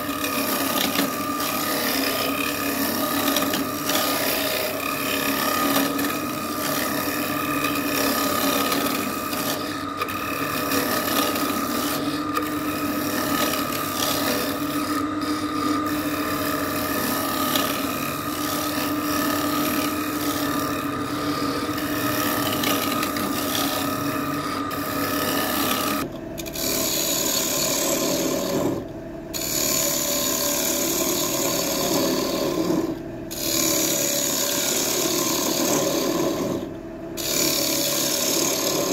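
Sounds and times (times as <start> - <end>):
tool scraping spinning wood: 0.0 - 38.9
wood lathe motor hum: 0.0 - 38.9.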